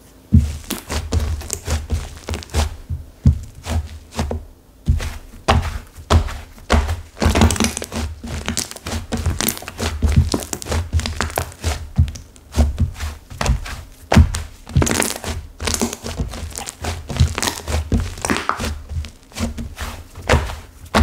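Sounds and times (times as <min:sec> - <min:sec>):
dull thuds: 0:00.3 - 0:21.0
hardened clay crackling and crunching: 0:00.3 - 0:21.0.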